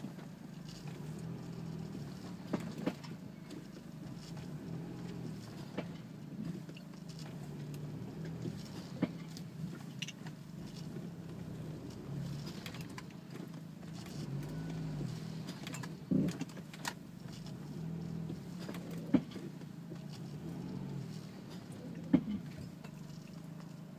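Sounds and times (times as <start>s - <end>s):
low car cabin hum: 0.0s - 23.9s.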